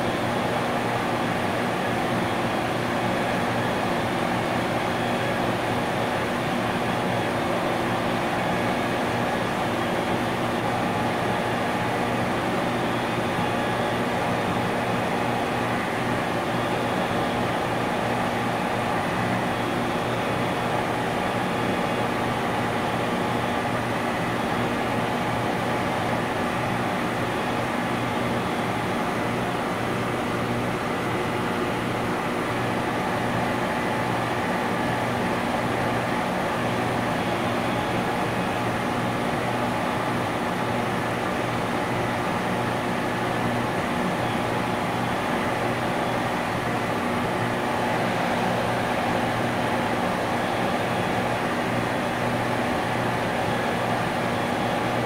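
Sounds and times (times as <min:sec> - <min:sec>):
industrial compressor humming: 0:00.0 - 0:55.0.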